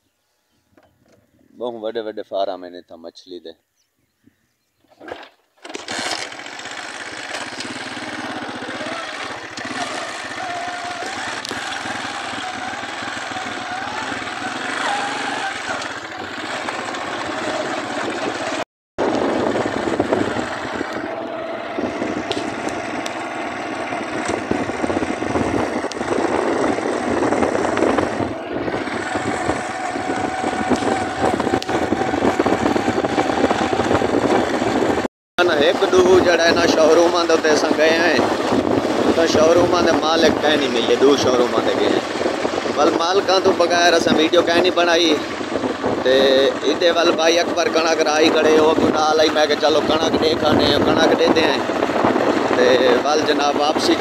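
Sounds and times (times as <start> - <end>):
rush of travel noise: 4.9 - 54.0
small vehicle engine running: 5.0 - 54.0.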